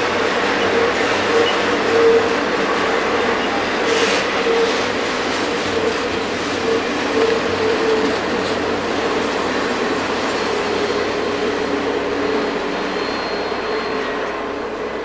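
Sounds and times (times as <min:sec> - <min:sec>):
train clatter: 0:00.0 - 0:15.0
train wheels on track: 0:00.0 - 0:15.0.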